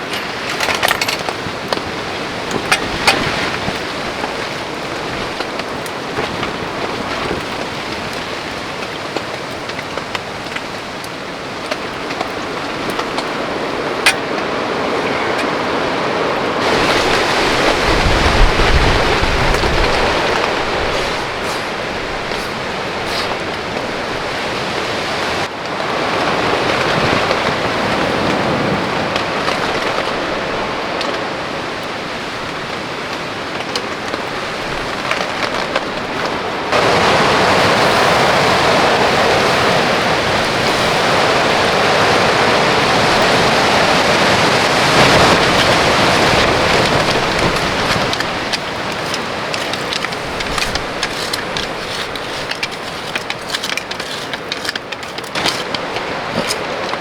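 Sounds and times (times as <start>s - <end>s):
heavy rain and wind: 0.0s - 57.0s.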